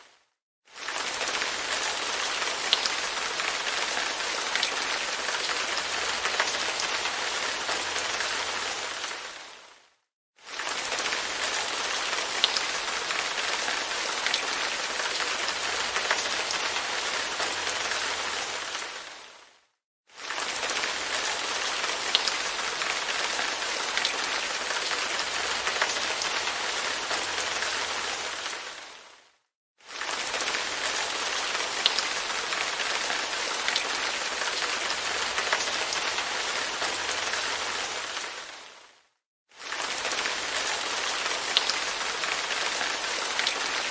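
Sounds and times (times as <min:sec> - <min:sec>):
light rain on a window: 0:00.0 - 0:43.9.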